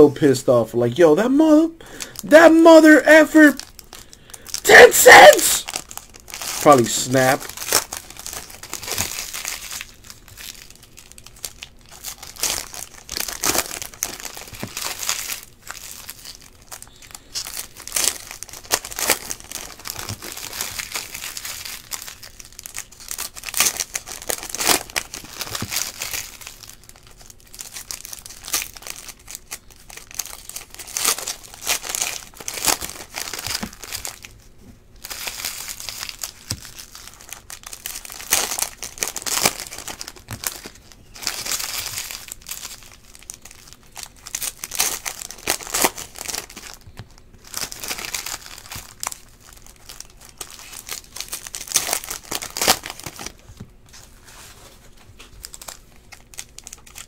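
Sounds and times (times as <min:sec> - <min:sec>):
foil wrappers crinkling and tearing: 0:01.8 - 0:57.0.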